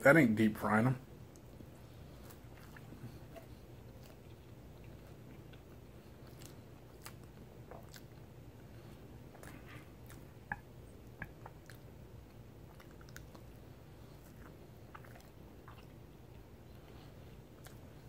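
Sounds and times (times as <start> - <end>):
person chewing food: 1.2 - 18.0.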